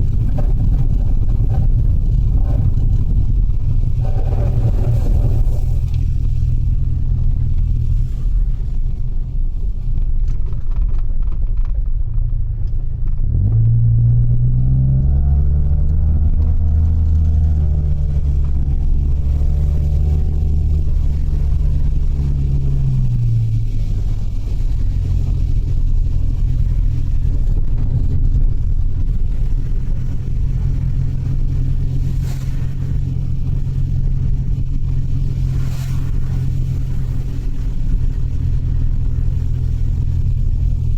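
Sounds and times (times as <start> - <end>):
van engine and road drone: 0.0 - 40.9.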